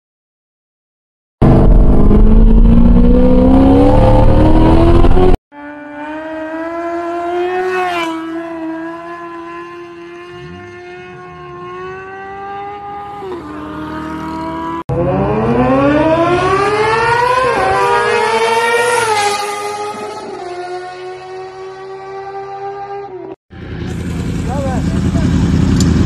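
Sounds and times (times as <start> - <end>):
motorcycle engine revving: 1.4 - 26.0.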